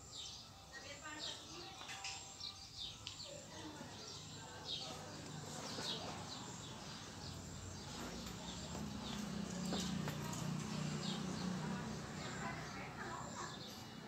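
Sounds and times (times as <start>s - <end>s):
faint background noise: 0.0s - 14.0s
small birds chirping: 0.0s - 14.0s.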